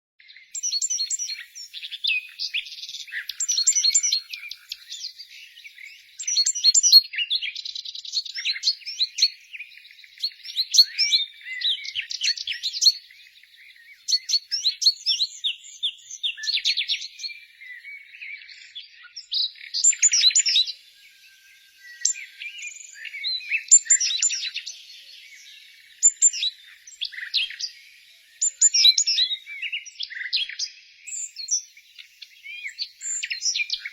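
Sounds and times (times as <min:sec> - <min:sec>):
songbirds chirping and trilling: 0:00.2 - 0:33.9.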